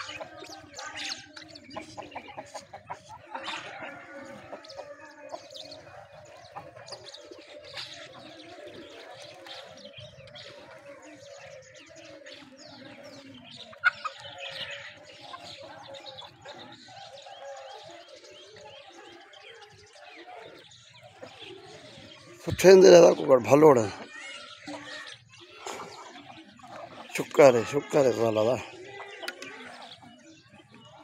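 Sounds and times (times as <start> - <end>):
birds cooing and clucking: 0.0 - 31.0.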